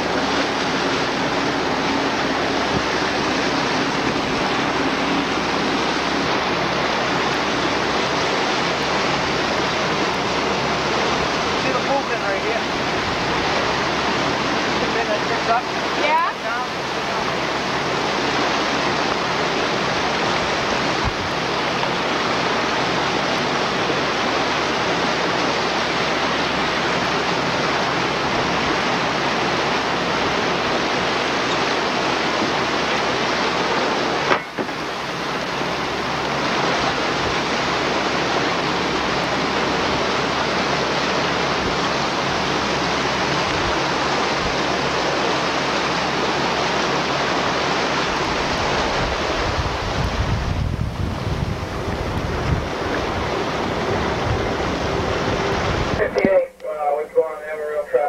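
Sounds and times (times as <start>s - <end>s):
water rushing along boat hull: 0.0s - 58.0s.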